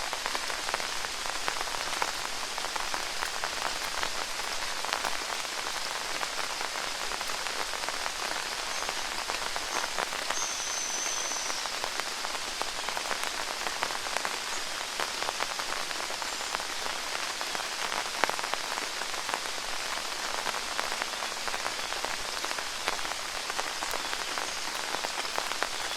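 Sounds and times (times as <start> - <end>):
rain hiss: 0.0 - 25.9
raindrops ticking on leaves: 0.0 - 25.9.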